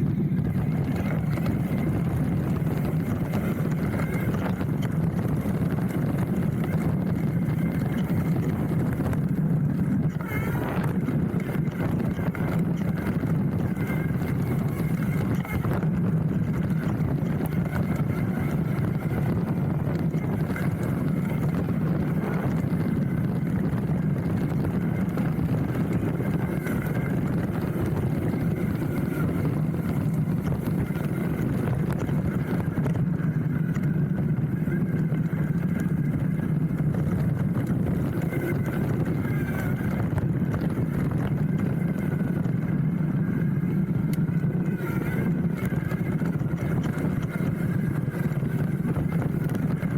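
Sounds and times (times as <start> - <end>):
mountain bike rattling on dirt trail: 0.0 - 49.9.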